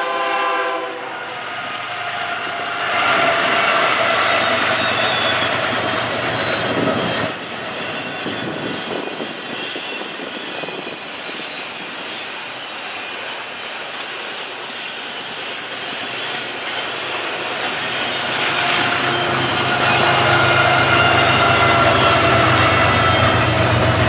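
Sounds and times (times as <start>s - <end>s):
freight train wheels rumbling on rail: 0.0s - 24.0s.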